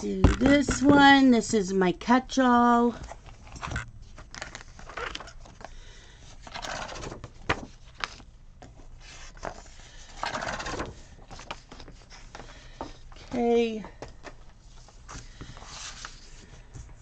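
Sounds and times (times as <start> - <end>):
paper pages rustling: 3.0 - 17.0.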